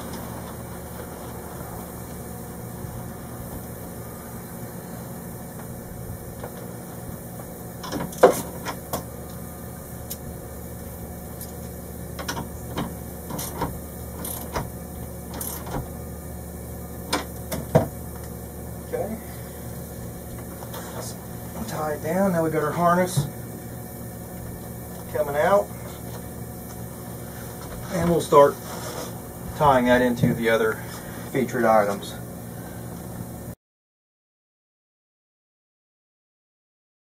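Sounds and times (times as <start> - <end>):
steady low hum: 0.0 - 33.6.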